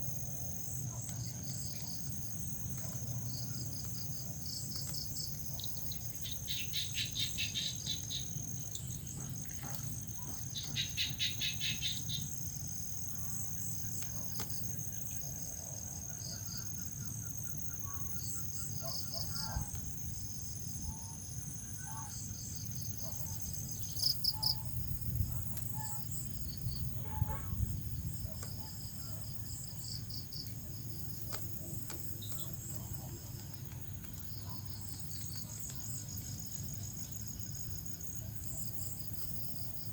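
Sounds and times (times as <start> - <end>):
crickets chirping: 0.0 - 39.9
low steady background rumble: 0.0 - 39.9.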